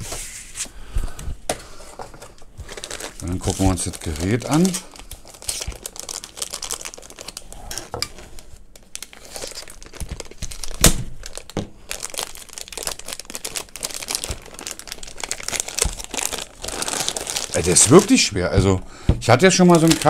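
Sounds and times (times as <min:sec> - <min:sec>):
plastic bag crinkling: 0:02.2 - 0:20.0.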